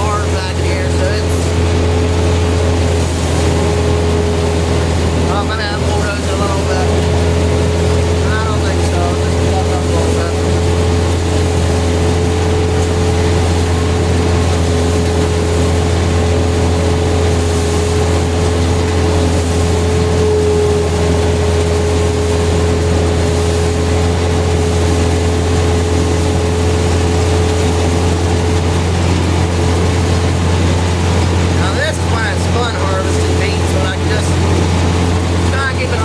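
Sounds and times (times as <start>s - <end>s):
thin steady whine: 0.0s - 36.0s
vehicle engine droning: 0.0s - 36.0s.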